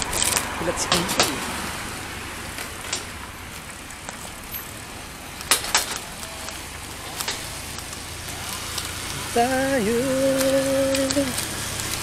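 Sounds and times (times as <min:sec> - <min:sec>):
bicycle rattles: 0:00.0 - 0:12.0
bicycle rolling on pavement: 0:00.0 - 0:12.0.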